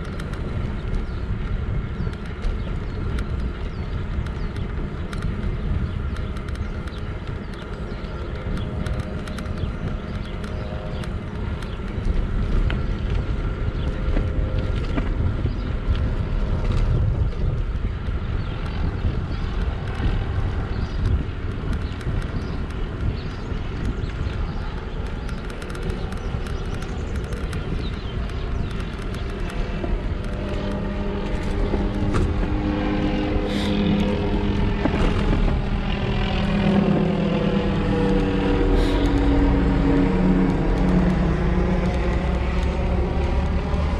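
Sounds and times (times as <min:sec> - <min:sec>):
engine hum: 0:00.0 - 0:43.9
road rumble: 0:00.0 - 0:43.9
wind buffeting microphone: 0:00.0 - 0:43.9.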